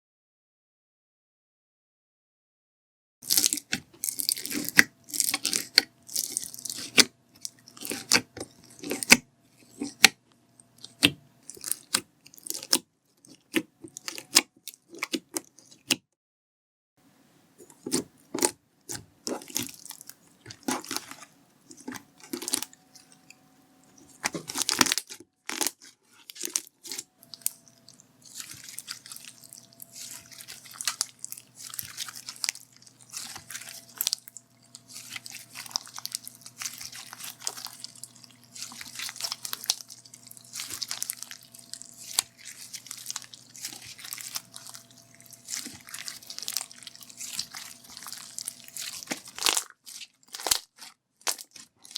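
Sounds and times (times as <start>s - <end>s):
foam slime crackling and crunching: 3.2s - 10.0s, 10.8s - 15.8s, 19.3s - 23.1s, 24.0s - 51.9s
slime squishes: 3.2s - 16.0s, 17.6s - 51.9s.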